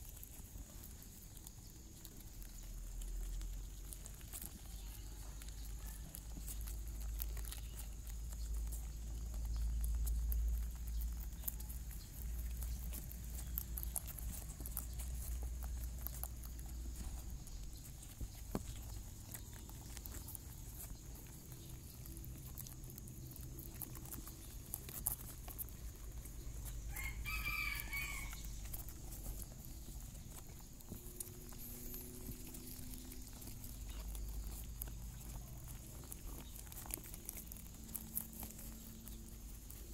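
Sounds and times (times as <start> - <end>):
soft rustling: 0.0 - 39.9.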